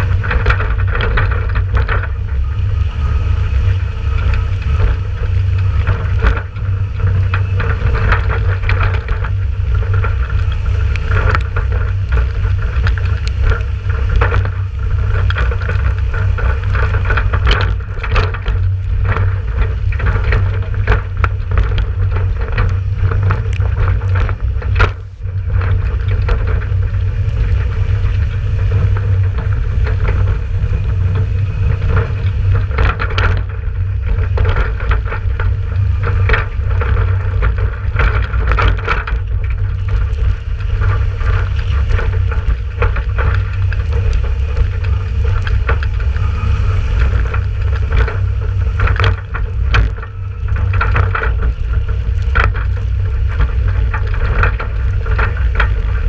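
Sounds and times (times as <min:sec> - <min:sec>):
sharp clicks and knocks: 0:00.0 - 0:56.0
tractor diesel engine running: 0:00.0 - 0:56.0.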